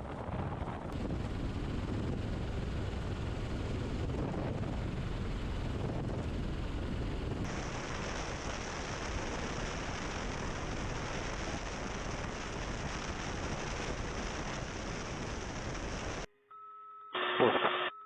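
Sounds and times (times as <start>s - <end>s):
helicopter flying: 0.0s - 16.3s.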